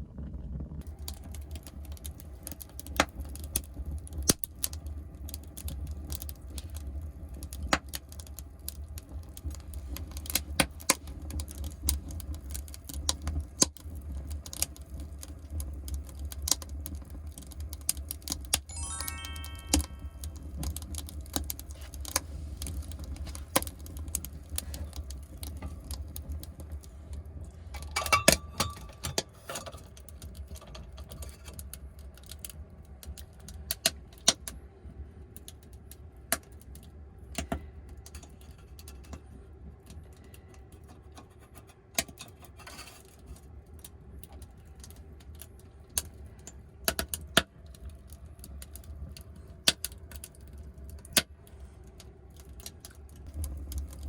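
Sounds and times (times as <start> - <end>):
low fire rumble: 0.0 - 18.6, 20.3 - 54.0
firewood crackling and popping: 0.2 - 19.2, 20.2 - 54.0.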